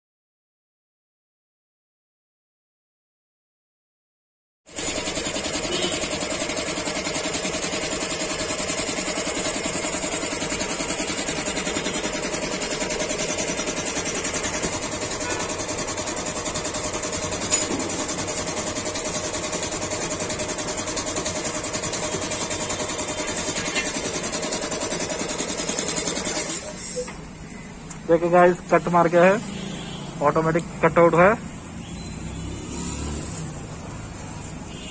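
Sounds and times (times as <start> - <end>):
air compressor running: 4.7 - 34.9.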